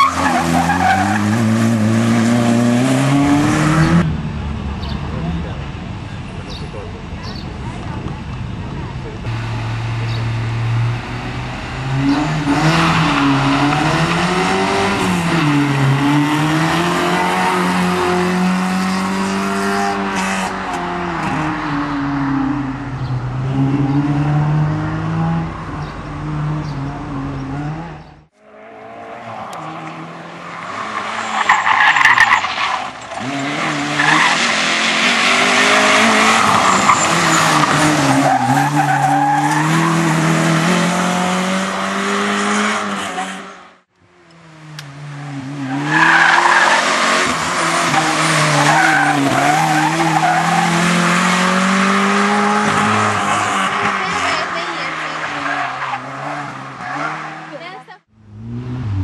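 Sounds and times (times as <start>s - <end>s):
rally car engine revving: 0.0s - 59.0s
tyres skidding: 0.0s - 59.0s.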